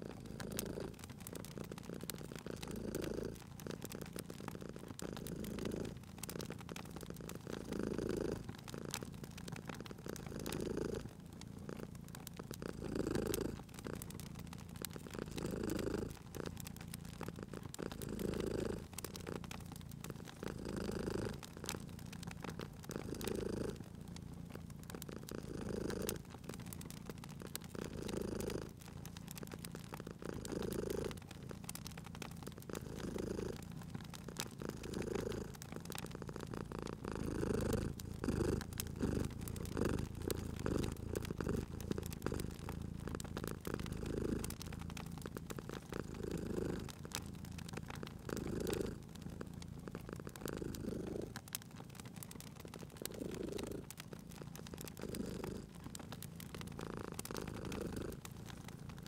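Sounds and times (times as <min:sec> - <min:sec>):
cat purring: 0:00.0 - 0:59.0
wood fire crackling: 0:00.0 - 0:59.0.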